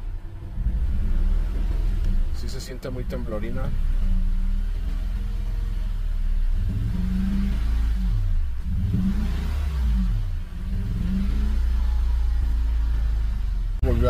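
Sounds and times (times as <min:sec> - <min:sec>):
engine idling roughly and revving: 0:00.0 - 0:14.0.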